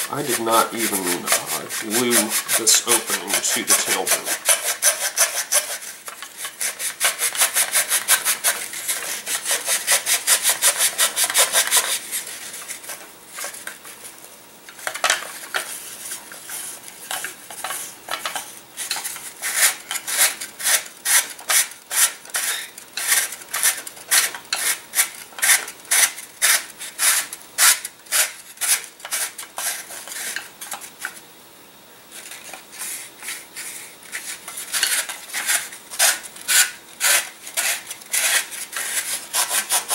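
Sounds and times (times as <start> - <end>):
sandpaper rubbing inside wood: 0.0 - 14.0, 18.8 - 30.8, 32.2 - 39.9.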